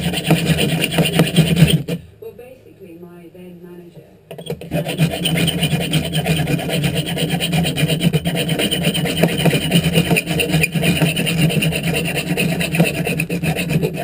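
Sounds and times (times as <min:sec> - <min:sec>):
file rasping on steel bolt: 0:00.0 - 0:02.0, 0:04.3 - 0:14.0.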